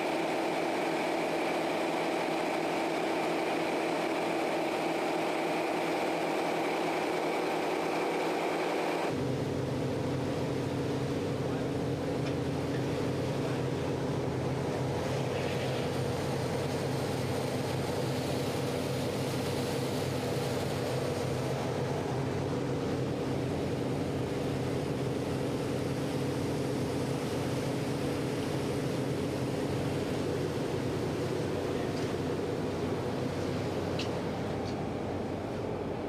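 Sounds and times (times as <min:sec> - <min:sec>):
boat engines droning: 0:00.0 - 0:36.0
water rushing along hull: 0:00.0 - 0:36.0.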